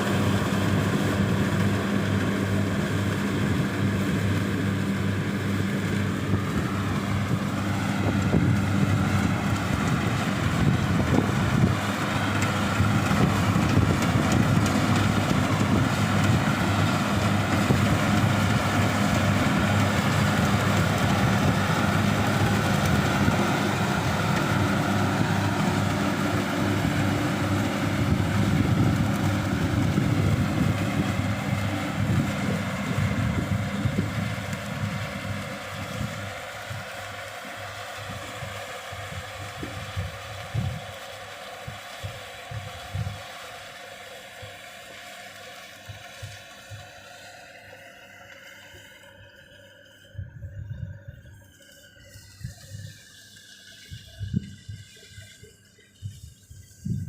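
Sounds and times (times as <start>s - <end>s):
harvesting machinery rattle and hiss: 0.0s - 50.2s, 51.4s - 57.0s
combine harvester engine drone: 0.0s - 57.0s.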